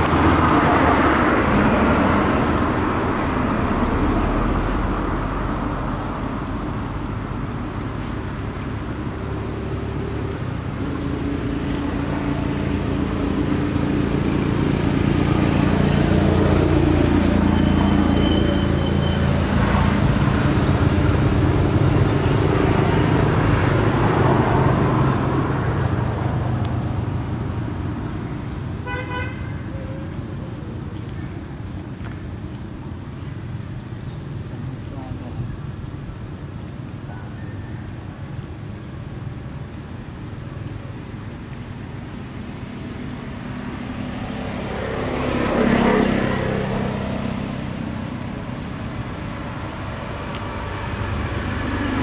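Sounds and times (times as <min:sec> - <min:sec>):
road traffic engines droning: 0:00.0 - 0:52.0.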